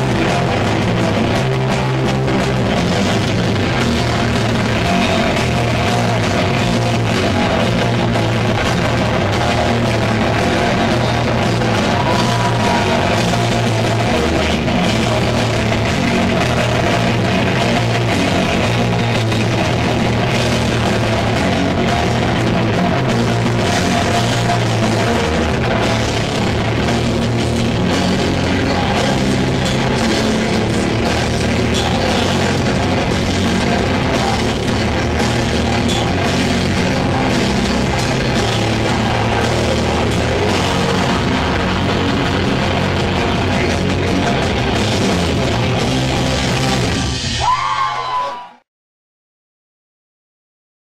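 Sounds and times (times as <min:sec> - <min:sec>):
electric guitar riffing: 0:00.0 - 0:48.1
drum kit: 0:00.0 - 0:48.5
bass guitar: 0:00.0 - 0:48.6.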